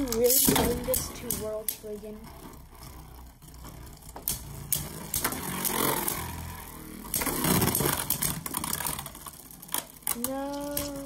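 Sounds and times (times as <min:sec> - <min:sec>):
spinning tops whirring scrape: 0:00.0 - 0:11.0.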